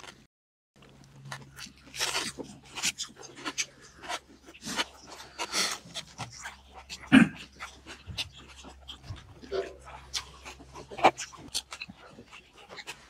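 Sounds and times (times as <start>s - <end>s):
wet chewing and smacking: 0.8s - 13.0s.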